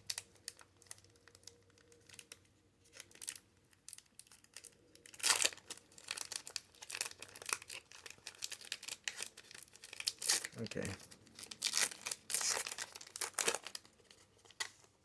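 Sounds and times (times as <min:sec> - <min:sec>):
foil wrapper tearing: 0:00.0 - 0:14.9
foil wrapper crinkling: 0:00.0 - 0:15.0.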